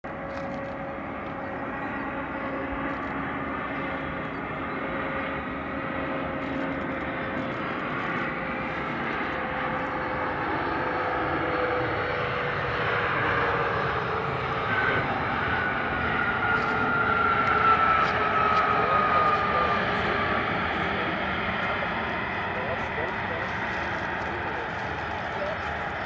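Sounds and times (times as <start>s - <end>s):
jet engine noise with whine: 0.0s - 26.0s.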